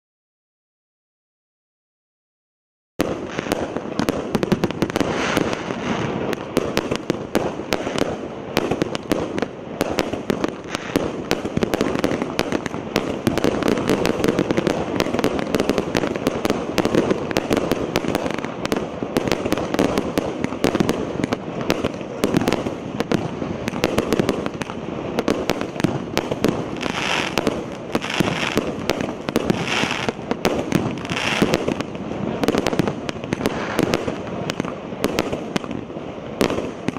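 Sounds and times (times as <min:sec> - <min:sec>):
fireworks cake firing: 0:03.0 - 0:36.9
high-pitched firework bursts: 0:03.0 - 0:36.9.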